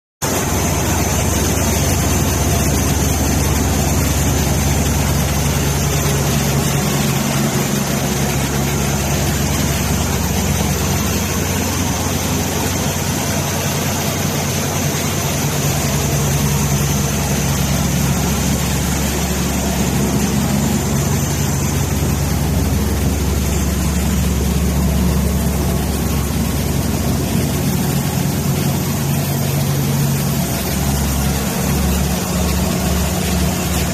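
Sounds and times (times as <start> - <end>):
diesel engine humming: 0.2 - 33.9
thin high whine: 0.2 - 33.9.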